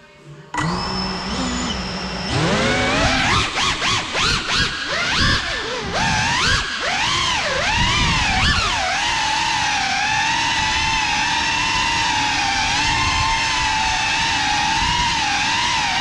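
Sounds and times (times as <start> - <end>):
quadcopter propellers whining: 0.6 - 16.0.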